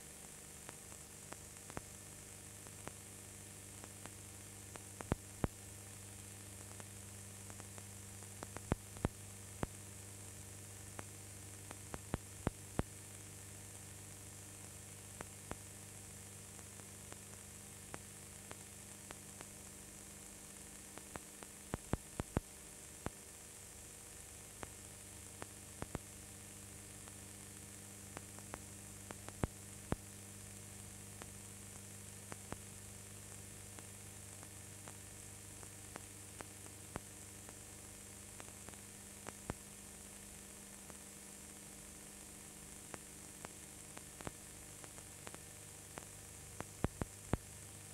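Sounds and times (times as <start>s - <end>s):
mains hum and hiss: 0.0s - 47.9s.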